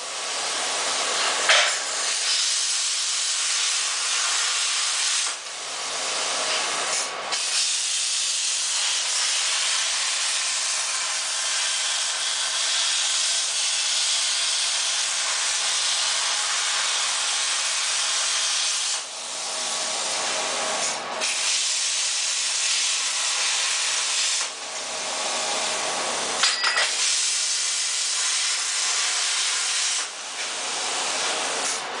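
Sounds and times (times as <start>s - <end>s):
plasma cutter hissing: 0.0s - 32.0s.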